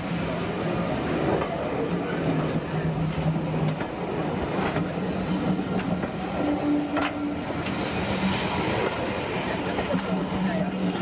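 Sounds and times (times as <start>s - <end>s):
train rumbling and humming: 0.0s - 11.0s.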